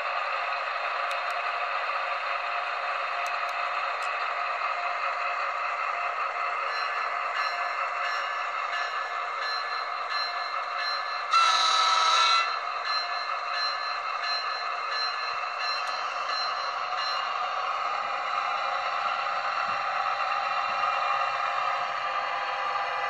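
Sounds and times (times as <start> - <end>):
model train running on track: 0.0 - 23.0.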